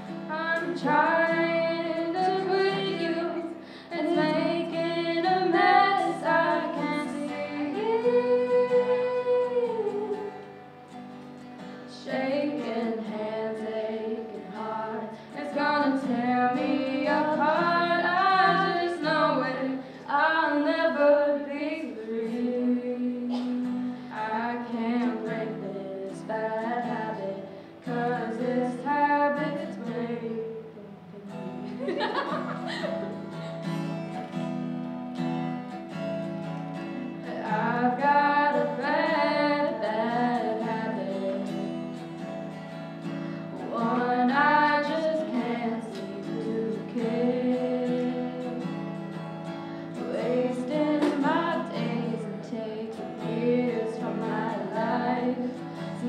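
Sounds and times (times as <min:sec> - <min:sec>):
person singing with vibrato: 0:00.0 - 0:10.6, 0:11.9 - 0:33.7, 0:36.9 - 0:42.0, 0:43.3 - 0:49.1, 0:49.9 - 0:56.0
acoustic guitar chords: 0:00.0 - 0:56.0.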